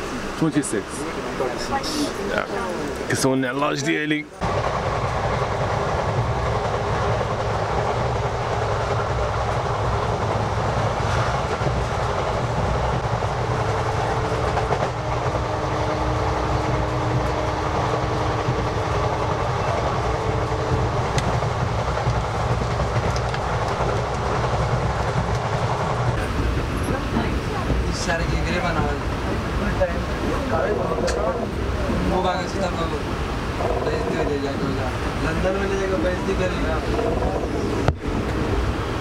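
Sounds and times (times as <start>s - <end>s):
train wheels rumbling and rattling: 4.4s - 39.0s.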